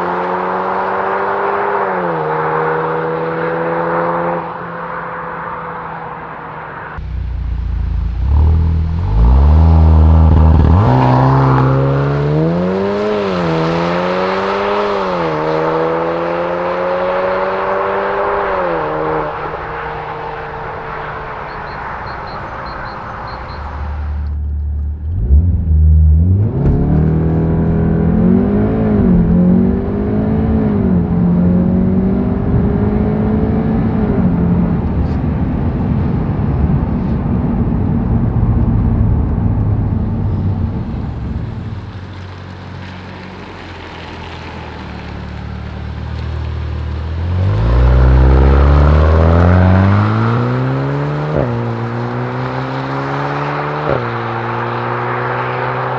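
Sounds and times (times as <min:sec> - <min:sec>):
car engine accelerating hard: 0:00.0 - 0:55.9.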